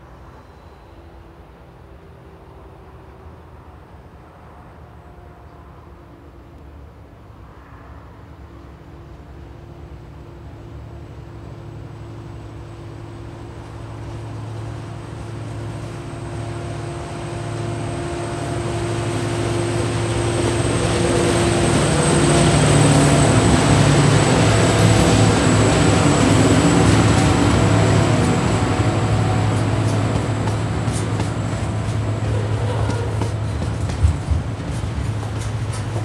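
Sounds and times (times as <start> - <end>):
diesel locomotive engine drone: 0.0 - 36.0
wagons rumbling on rails: 0.0 - 36.0.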